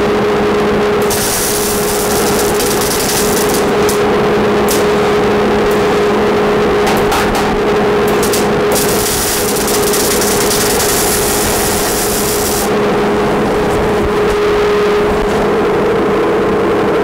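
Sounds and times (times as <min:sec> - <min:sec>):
dust collector humming: 0:00.0 - 0:16.6
welding arc crackling: 0:00.5 - 0:14.6.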